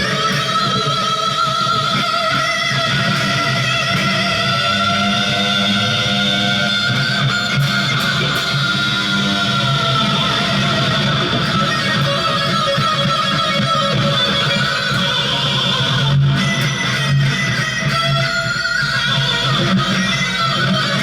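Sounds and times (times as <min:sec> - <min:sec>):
electric guitar strummed: 0:00.0 - 0:21.0.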